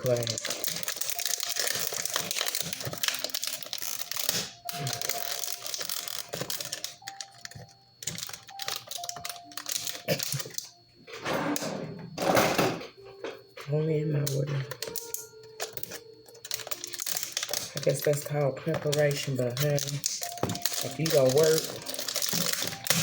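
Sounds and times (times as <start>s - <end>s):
plastic crinkling: 0.0s - 10.8s, 14.3s - 23.0s.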